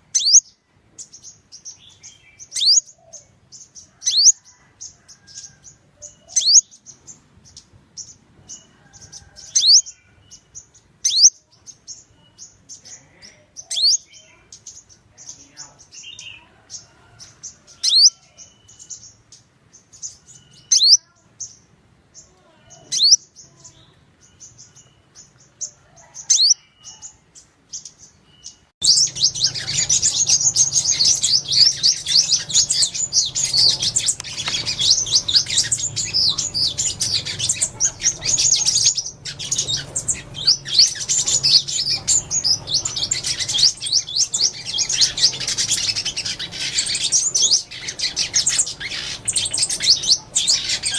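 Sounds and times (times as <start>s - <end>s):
flock of birds twittering: 0.0s - 50.9s.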